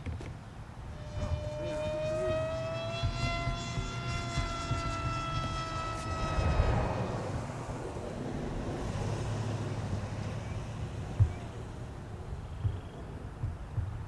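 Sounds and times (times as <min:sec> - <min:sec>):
wind rumble on microphone: 0:00.0 - 0:14.0
model airplane motor whine: 0:00.3 - 0:13.1.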